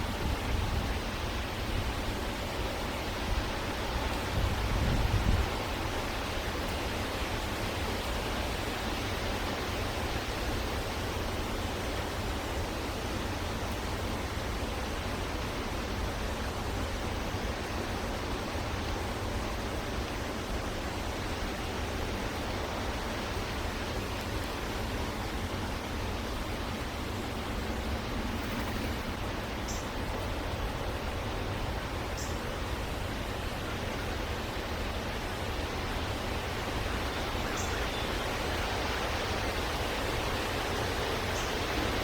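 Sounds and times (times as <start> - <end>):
steady hiss: 0.0 - 42.0.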